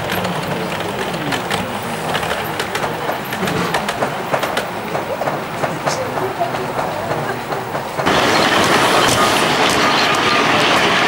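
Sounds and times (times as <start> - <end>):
model train wheels clicking: 0.0 - 11.0.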